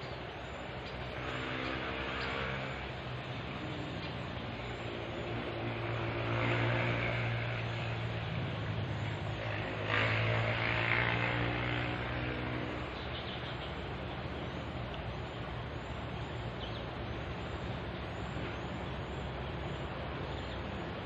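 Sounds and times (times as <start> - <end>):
steady rushing noise: 0.0 - 21.0
vehicles passing over bridge: 0.0 - 21.0.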